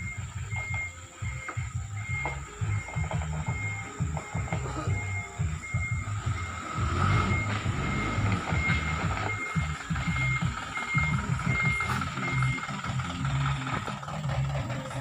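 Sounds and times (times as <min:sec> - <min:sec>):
reverse alarm beeping: 0:00.0 - 0:13.8
truck engine running: 0:00.0 - 0:15.0.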